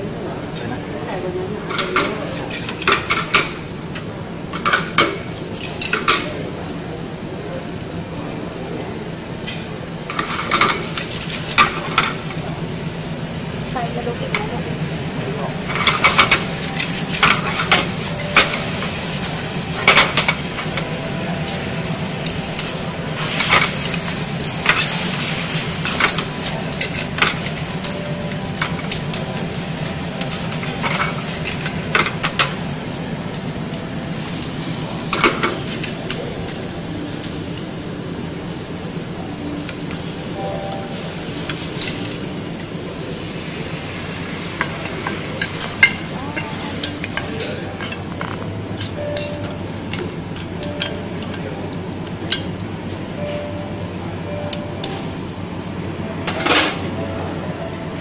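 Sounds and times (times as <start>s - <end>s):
food sizzling in frying pan: 1.6s - 51.2s.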